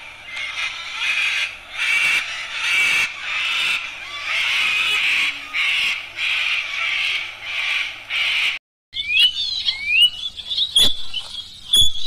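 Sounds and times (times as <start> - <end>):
cockatoo calling: 0.0 - 12.0.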